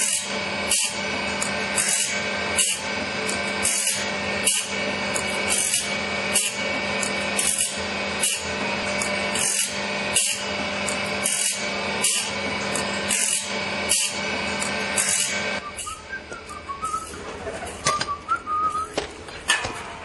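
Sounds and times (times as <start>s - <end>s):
high-pitched grinding of saw teeth: 0.0s - 19.0s
motor hum: 0.0s - 20.0s.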